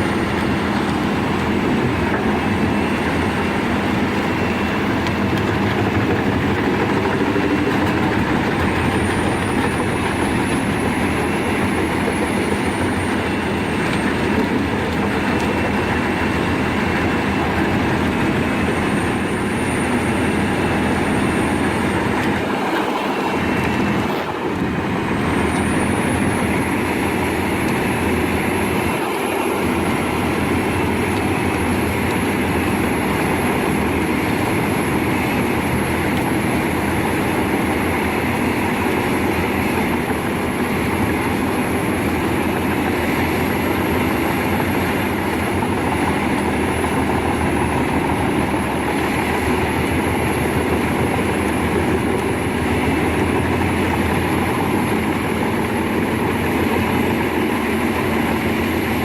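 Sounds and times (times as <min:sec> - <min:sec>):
high whine: 0:00.0 - 0:59.0
wood chipper engine drone: 0:00.0 - 0:59.0.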